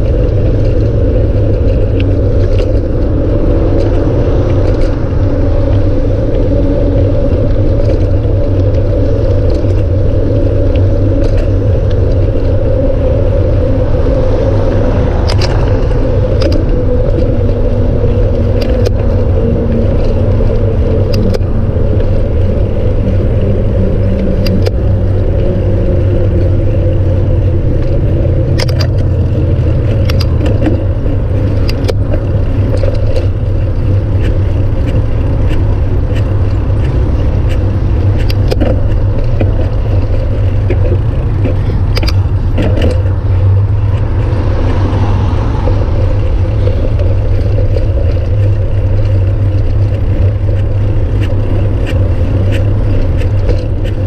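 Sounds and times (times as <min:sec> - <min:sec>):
bicycle clicks and rattles: 0:00.0 - 0:54.0
wind and road noise rumble: 0:00.0 - 0:54.0.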